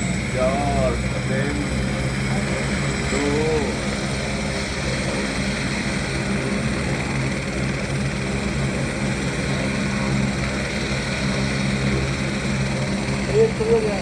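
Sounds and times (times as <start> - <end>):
helicopter turbine and rotor: 0.0 - 14.0.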